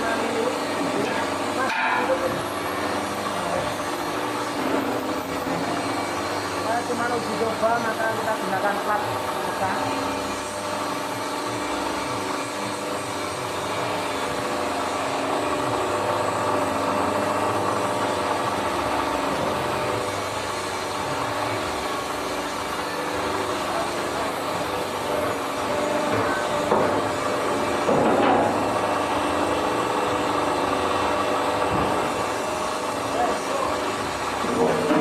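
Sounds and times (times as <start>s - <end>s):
hydraulic press humming: 0.0s - 35.0s.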